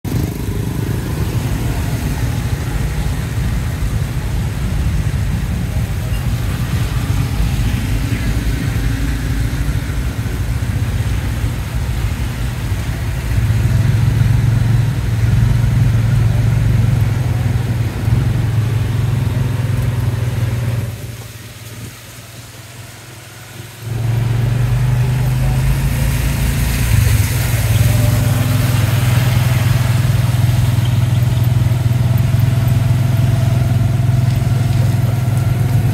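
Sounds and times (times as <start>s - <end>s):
motorcycle engine running: 0.0s - 21.2s, 23.8s - 35.9s
passing traffic on wet road: 0.0s - 35.9s.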